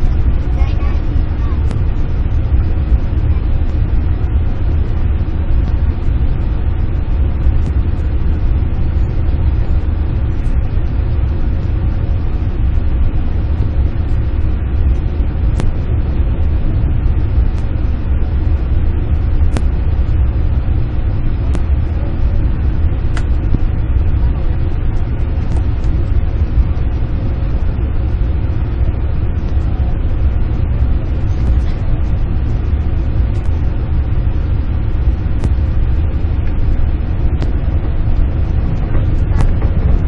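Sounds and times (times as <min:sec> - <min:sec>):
train cabin rumble: 0:00.0 - 0:40.0.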